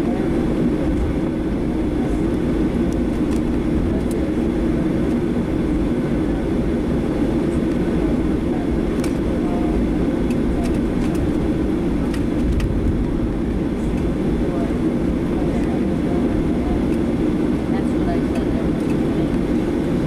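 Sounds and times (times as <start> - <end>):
jet engine cabin rumble: 0.0 - 20.0.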